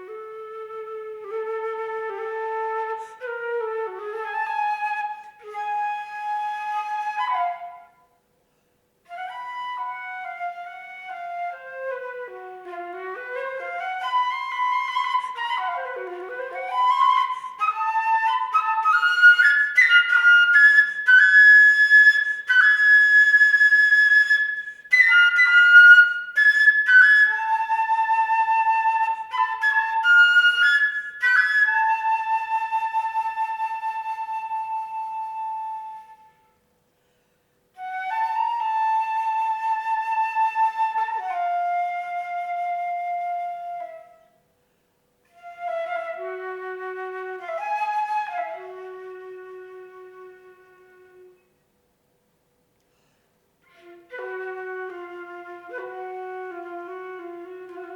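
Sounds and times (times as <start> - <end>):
solo flute melody: 0.0 - 36.7, 37.8 - 44.4, 45.3 - 51.6, 53.6 - 57.9.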